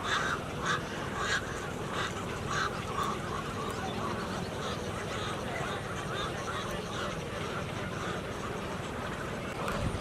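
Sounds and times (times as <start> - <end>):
flock of birds calling: 0.0 - 10.0
steady background noise: 0.0 - 10.0.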